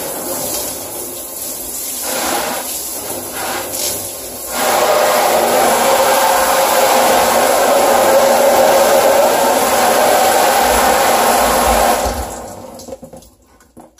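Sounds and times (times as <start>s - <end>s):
shower head spraying water: 0.0s - 12.9s.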